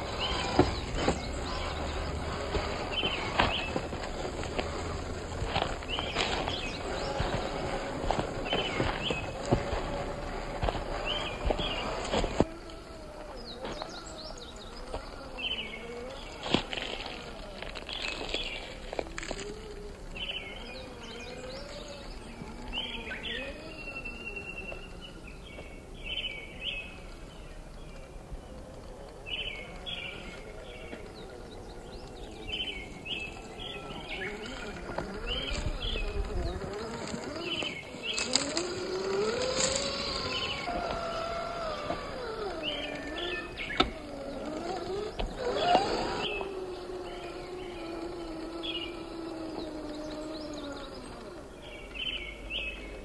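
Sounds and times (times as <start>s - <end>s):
birds chirping: 0.0s - 53.0s
electric motor whining: 0.0s - 53.0s.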